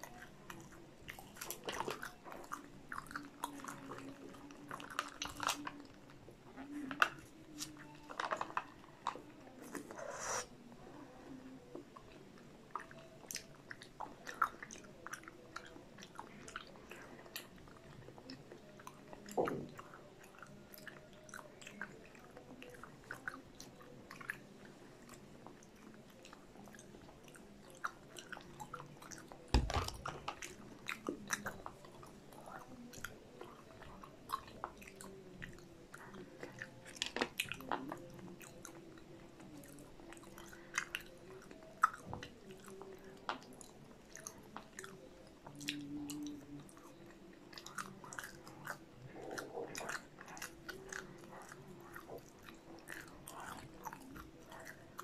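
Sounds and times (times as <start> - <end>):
chewing and biting food: 0.0 - 10.4, 11.6 - 55.0.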